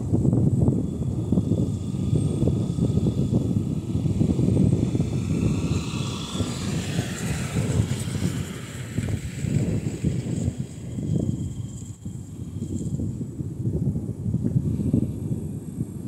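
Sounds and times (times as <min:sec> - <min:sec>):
aircraft engines whining: 0:00.0 - 0:16.0
wind rumbling on microphone: 0:00.0 - 0:16.0.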